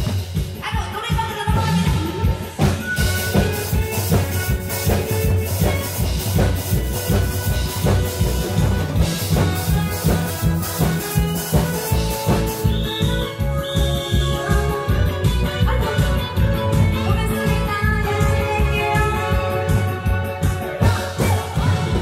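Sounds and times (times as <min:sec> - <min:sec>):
drum kit: 0:00.0 - 0:22.0
instrumental dance music: 0:00.0 - 0:22.0.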